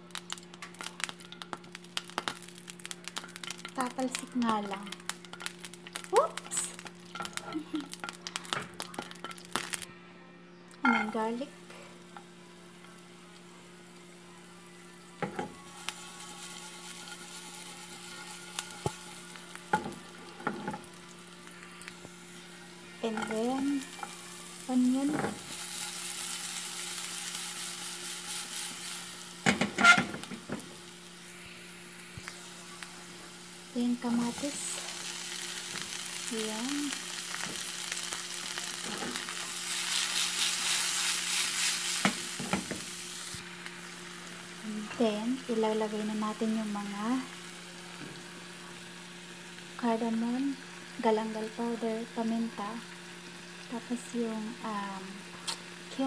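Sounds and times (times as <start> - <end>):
garlic sizzling in oil: 0.0 - 9.9, 10.8 - 56.0.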